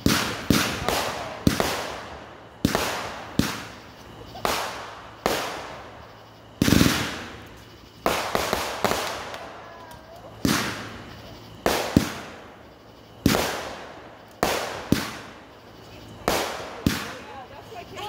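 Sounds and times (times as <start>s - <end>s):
fireworks bangs echoing: 0.0s - 17.5s.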